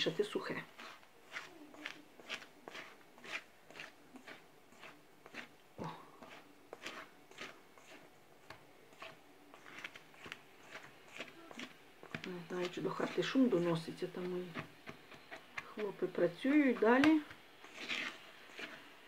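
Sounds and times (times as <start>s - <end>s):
spatula scraping steel bowl: 0.0s - 19.0s.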